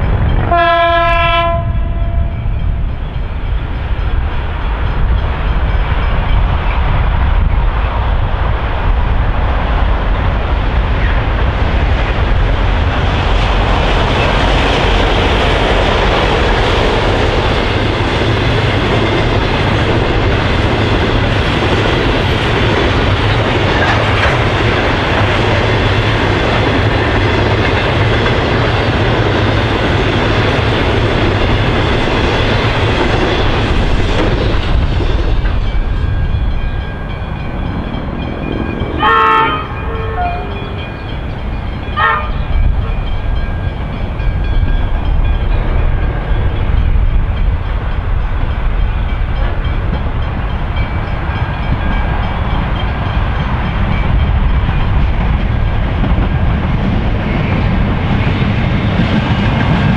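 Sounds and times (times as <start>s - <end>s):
train wheels on track: 0.0s - 59.9s.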